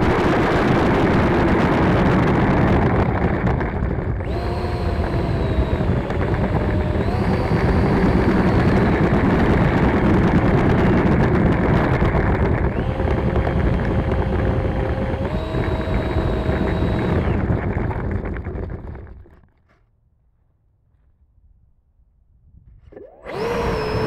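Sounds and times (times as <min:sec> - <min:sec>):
electric ducted fan whine: 0:00.0 - 0:19.5, 0:22.8 - 0:24.0.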